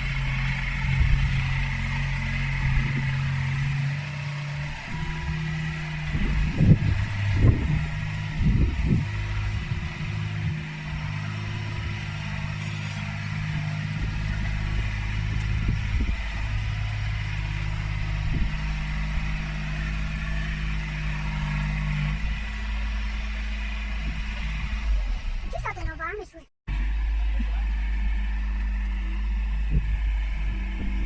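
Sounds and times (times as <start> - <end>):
deep rumble: 0.0 - 26.0, 26.7 - 31.0
excavator diesel engine running: 0.0 - 31.0.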